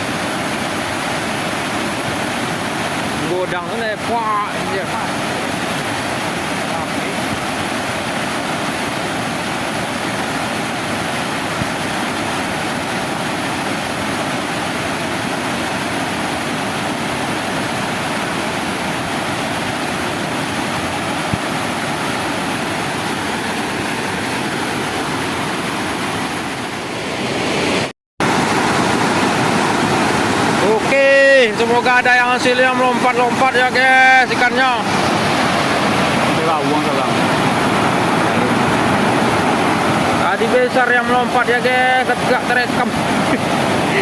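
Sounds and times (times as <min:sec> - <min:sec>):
water rushing over waterfall: 0:00.0 - 0:44.0.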